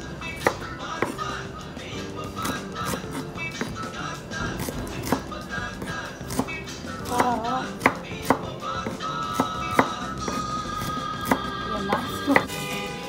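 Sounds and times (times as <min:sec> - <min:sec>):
background music: 0:00.0 - 0:13.0
knife chopping on wooden board: 0:00.4 - 0:01.3, 0:02.4 - 0:12.7.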